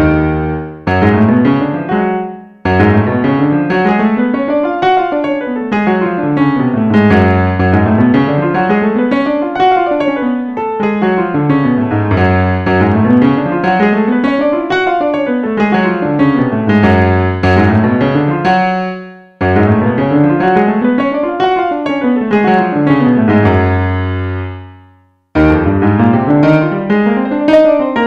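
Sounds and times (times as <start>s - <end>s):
electronic piano playing scales: 0.0s - 28.0s.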